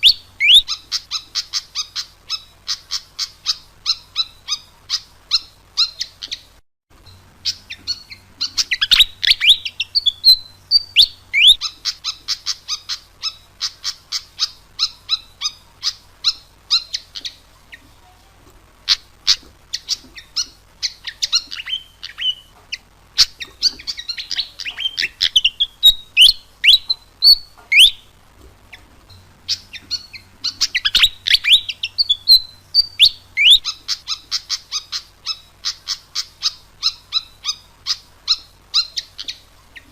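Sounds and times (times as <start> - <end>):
bird singing sharp chips: 0.0 - 17.8, 18.9 - 39.9.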